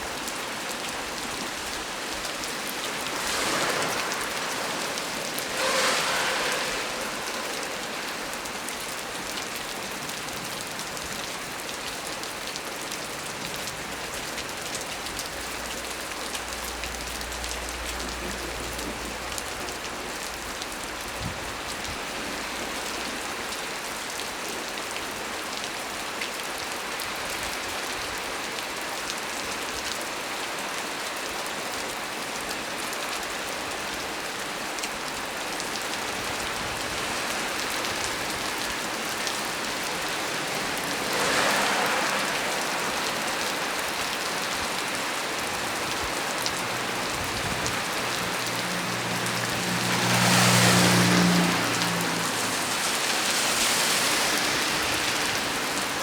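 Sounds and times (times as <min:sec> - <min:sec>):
heavy rain on a tree: 0:00.0 - 0:56.0.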